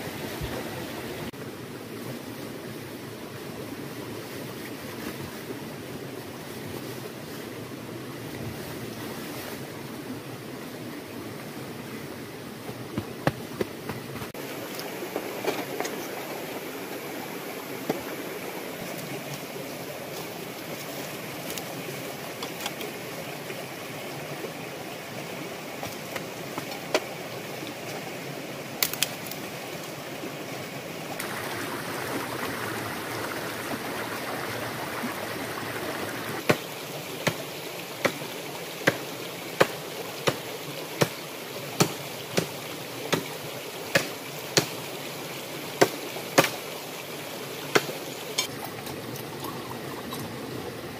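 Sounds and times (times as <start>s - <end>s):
stream running over rocks: 0.0s - 50.9s.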